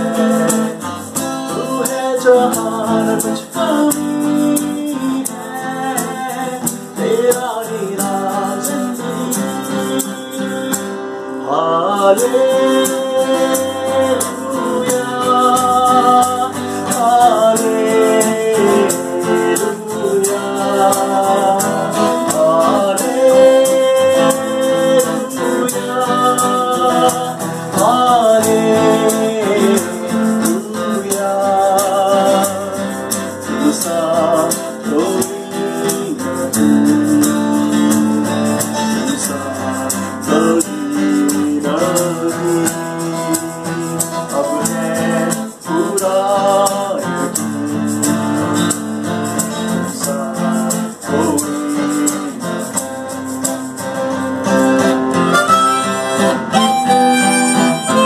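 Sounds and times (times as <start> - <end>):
man singing worship song: 0.0 - 53.4
strummed acoustic guitar: 0.0 - 58.0.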